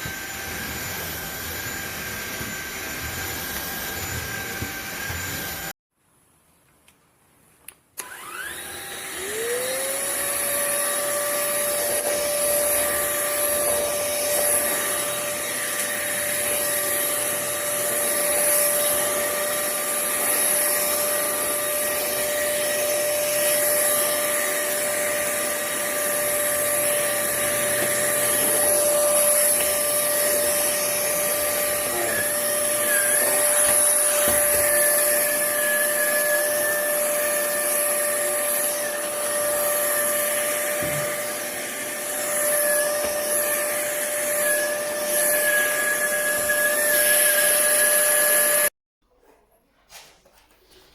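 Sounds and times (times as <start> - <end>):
vacuum cleaner motor whine: 0.0 - 5.8, 8.0 - 48.7.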